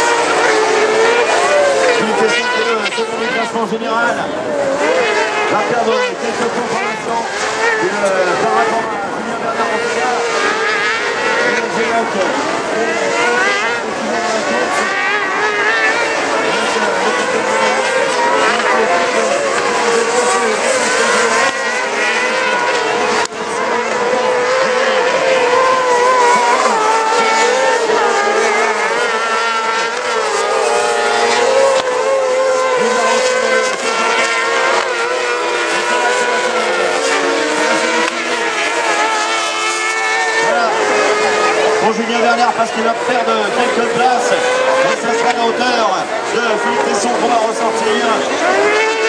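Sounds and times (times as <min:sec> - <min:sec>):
racing kart engines revving: 0:00.0 - 0:49.0.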